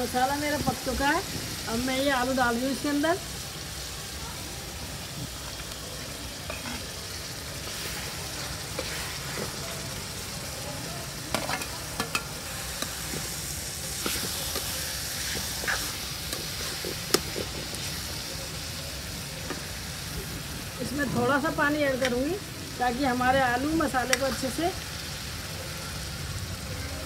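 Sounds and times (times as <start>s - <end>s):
masala sizzling: 0.0s - 27.0s.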